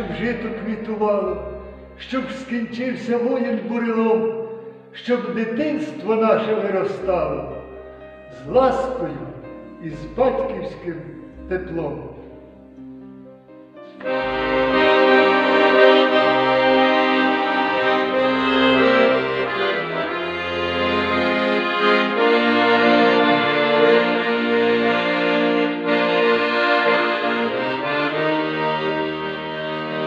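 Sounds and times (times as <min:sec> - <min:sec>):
accordion folk melody: 0:00.0 - 0:30.0.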